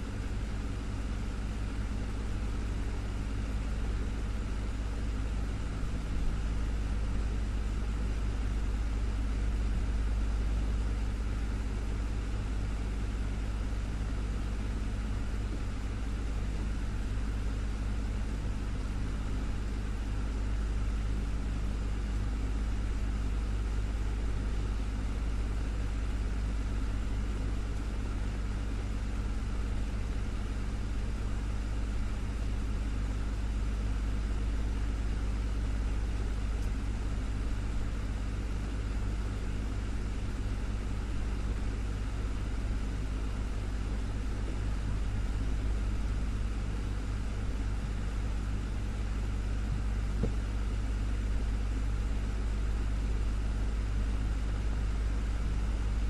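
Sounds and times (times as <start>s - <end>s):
low motor hum: 1.8s - 56.0s.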